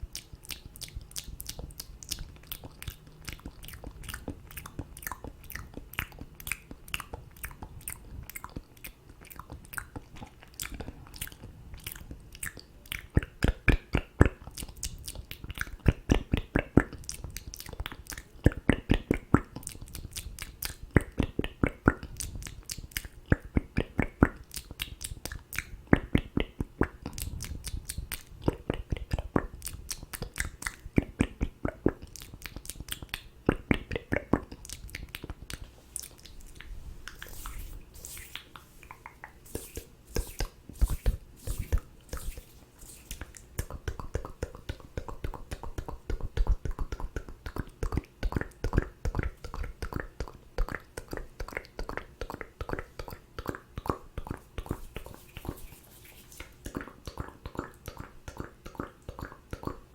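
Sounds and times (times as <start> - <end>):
wet mouth clicks and smacks: 0.0 - 59.9.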